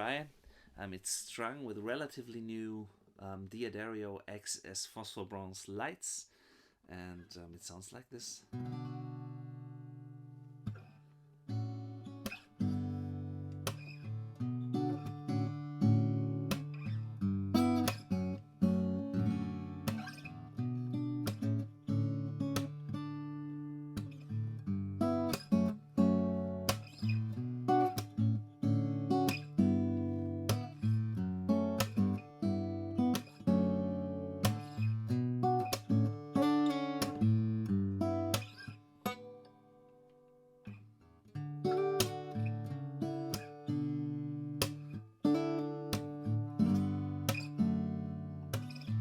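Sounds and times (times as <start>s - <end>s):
acoustic guitar played fingerstyle: 8.5s - 49.0s.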